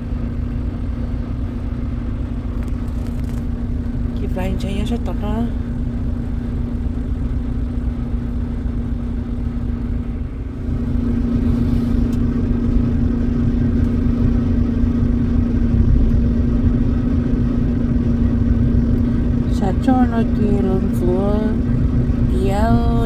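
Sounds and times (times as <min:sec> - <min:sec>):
truck engine and road drone: 0:00.0 - 0:23.0.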